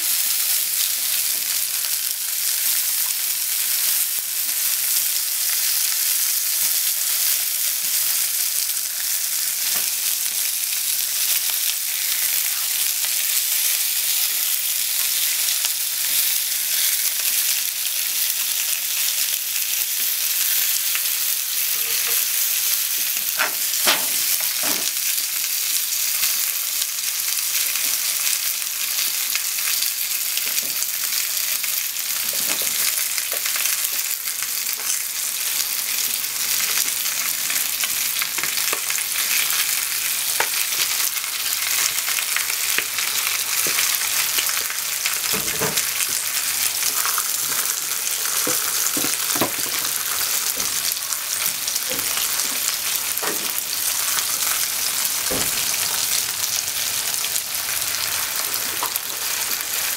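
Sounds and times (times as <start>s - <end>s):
meat and onions sizzling in a pan: 0.0s - 59.9s.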